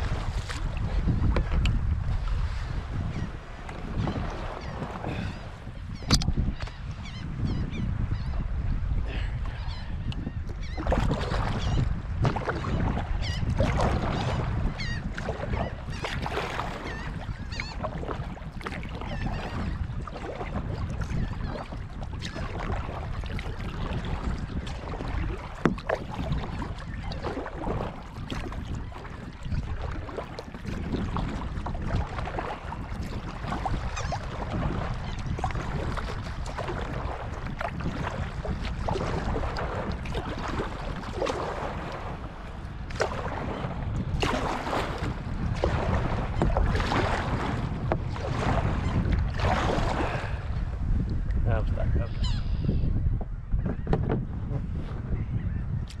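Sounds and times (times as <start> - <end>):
paddle strokes splashing water: 0.0 - 6.7, 10.5 - 51.2
wind rumble on microphone: 0.0 - 56.0.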